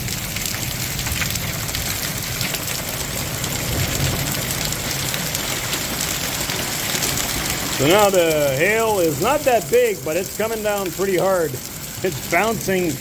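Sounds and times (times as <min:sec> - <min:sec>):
hailstones falling: 0:00.0 - 0:13.0.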